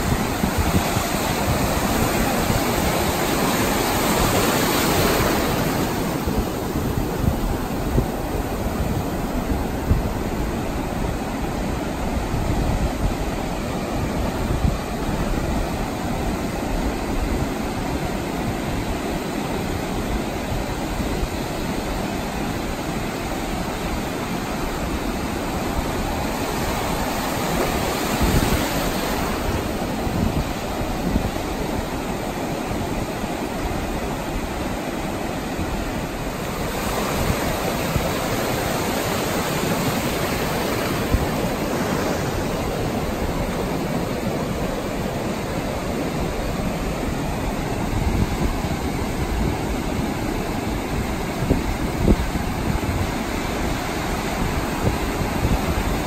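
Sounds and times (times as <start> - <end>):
surf washing up sandy beach: 0.0 - 56.0.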